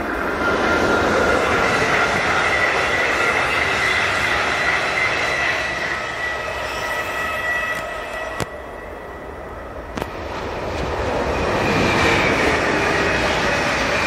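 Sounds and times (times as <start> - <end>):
high wheel squeal: 0.0 - 9.8, 11.3 - 14.0
train wheels rumbling on rails: 0.0 - 14.0.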